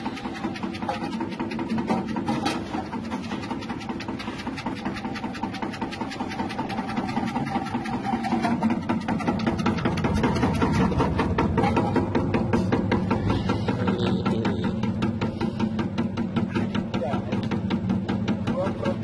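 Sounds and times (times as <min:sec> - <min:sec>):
slicing machine motor humming: 0:00.0 - 0:19.0.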